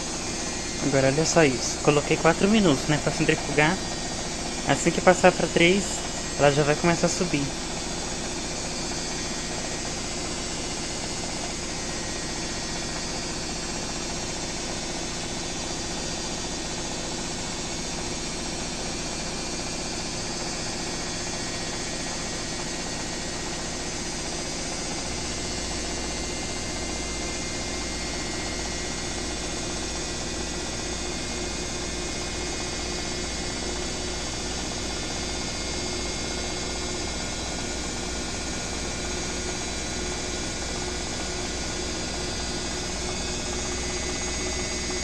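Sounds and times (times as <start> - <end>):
washing machine spinning: 0.0 - 45.0.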